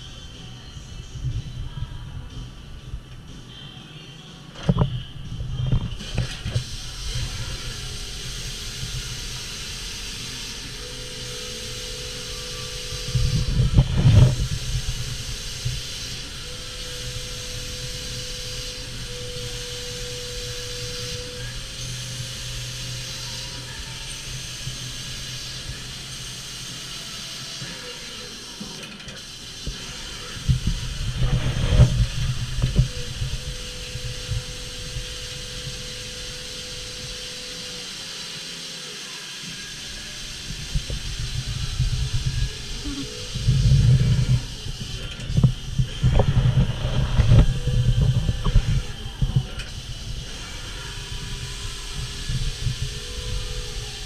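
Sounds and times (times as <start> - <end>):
machine tone and hum: 0.0 - 54.0
low rumbling: 4.7 - 26.6, 29.5 - 37.2, 40.0 - 54.0
coolant spray hissing: 5.9 - 54.0.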